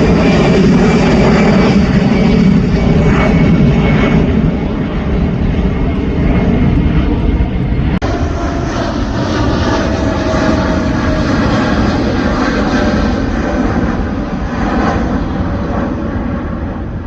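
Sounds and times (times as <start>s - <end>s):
airplane engines rumbling: 0.0s - 17.0s.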